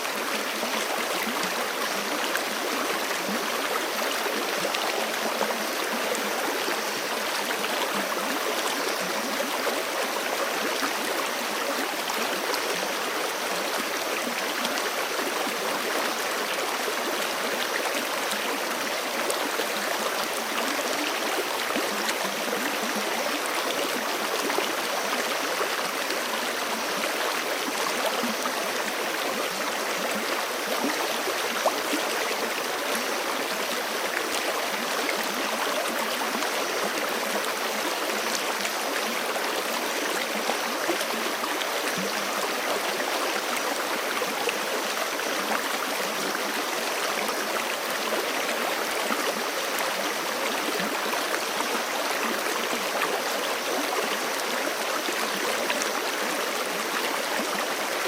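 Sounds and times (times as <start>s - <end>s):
creek running over rocks: 0.0s - 58.0s.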